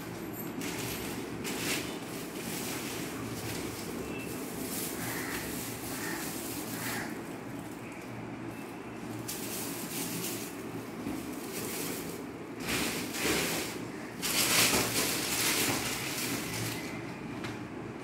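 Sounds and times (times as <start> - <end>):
plastic bag crinkling: 0.0 - 8.1, 9.0 - 17.0.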